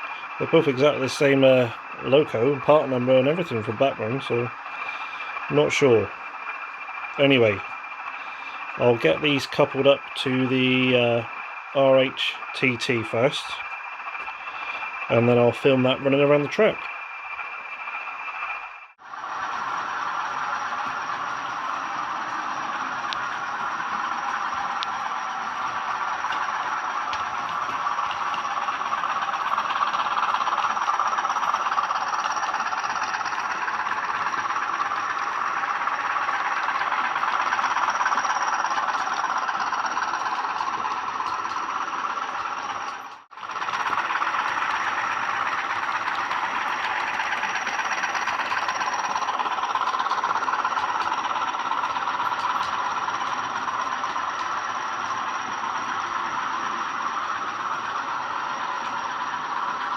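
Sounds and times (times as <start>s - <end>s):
model diesel engine sound from speakers: 0.0s - 59.9s.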